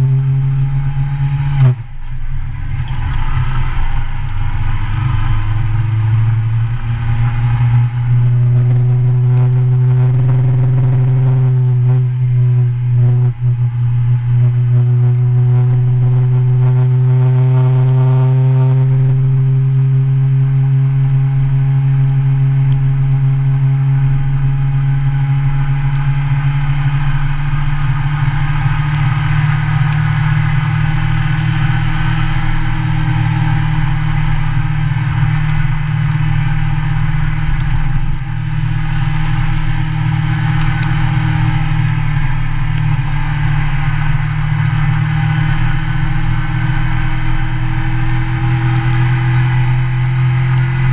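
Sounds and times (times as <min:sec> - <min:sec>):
rushing noise: 0:00.0 - 0:19.7, 0:24.1 - 0:50.9
motorcycle engine running: 0:00.0 - 0:50.9.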